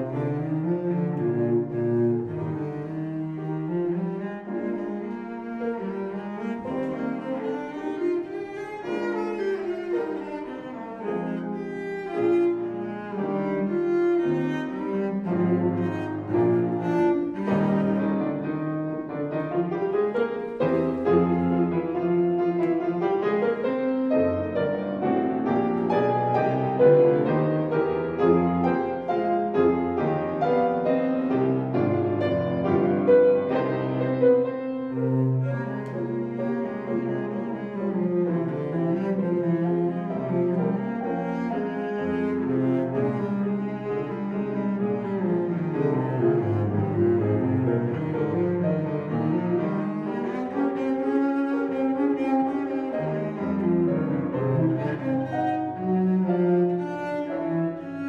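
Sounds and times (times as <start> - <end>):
cello playing: 0.0 - 58.0
piano accompaniment: 0.0 - 58.0.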